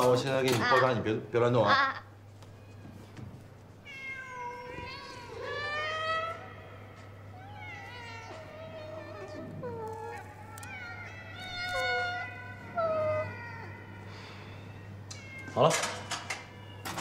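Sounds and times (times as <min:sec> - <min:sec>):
caged cats meowing: 0:00.0 - 0:17.0.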